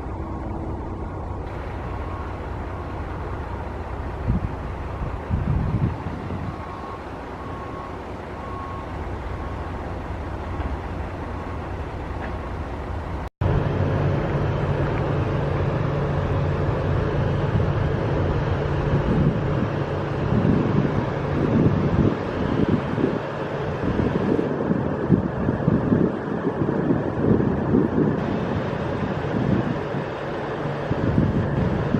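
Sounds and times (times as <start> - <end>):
diesel locomotive engine drone: 0.0 - 31.9
train rumbling: 0.0 - 31.9.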